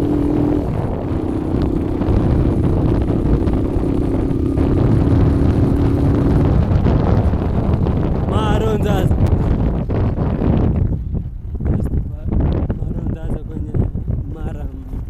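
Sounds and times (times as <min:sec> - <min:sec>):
heavy low rumble: 0:00.0 - 0:15.0
motorcycle engine running: 0:00.0 - 0:15.0.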